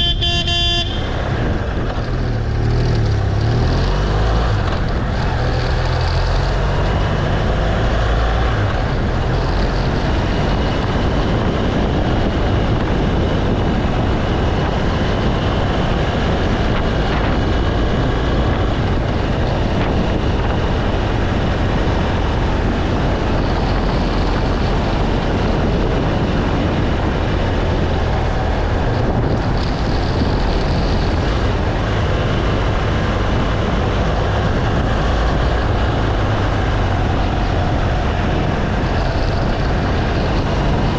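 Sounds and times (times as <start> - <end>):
motorcycle engine droning: 0.0 - 40.9
wind rushing past while riding: 0.0 - 40.9.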